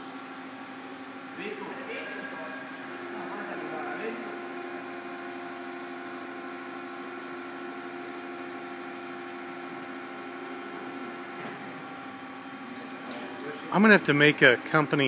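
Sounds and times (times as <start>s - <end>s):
machinery hum with tones: 0.0s - 15.0s.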